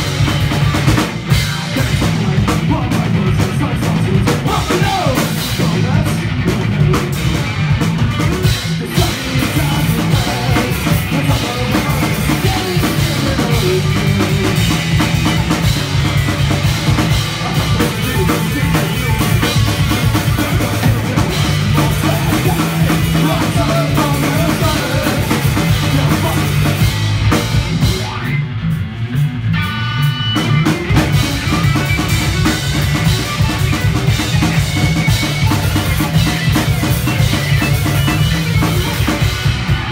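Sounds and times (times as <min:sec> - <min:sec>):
distorted electric guitars: 0:00.0 - 0:39.9
pounding drum kit: 0:00.0 - 0:39.9.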